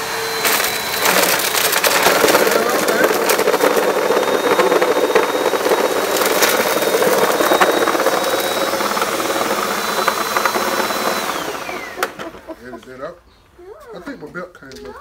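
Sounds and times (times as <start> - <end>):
vacuum cleaner running: 0.0 - 13.1
crumbs crackling in vacuum: 0.5 - 12.7.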